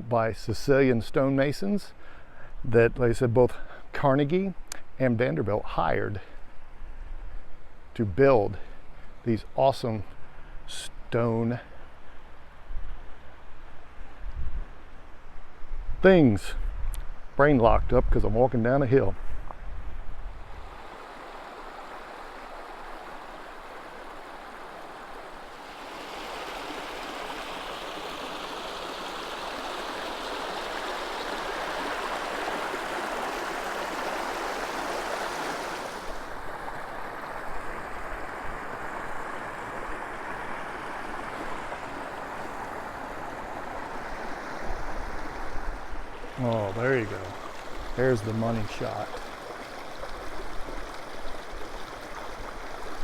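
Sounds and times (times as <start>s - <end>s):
creek water rushing and gurgling: 3.2s - 17.3s, 19.1s - 53.0s.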